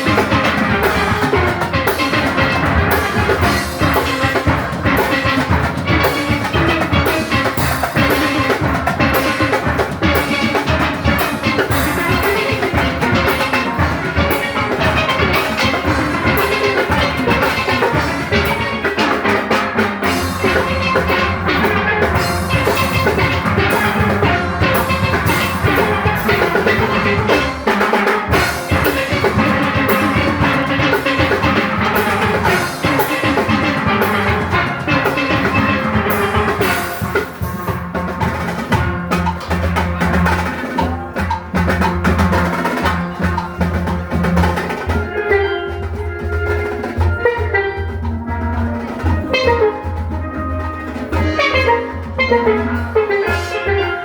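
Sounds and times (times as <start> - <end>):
drum kit and percussion: 0.0 - 54.0
steelpans playing a tune: 0.0 - 54.0.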